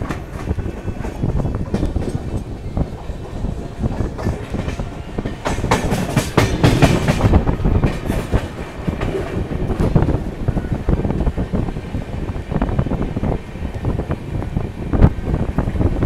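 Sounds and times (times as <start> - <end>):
train wheels clacking over rails: 0.0 - 16.0.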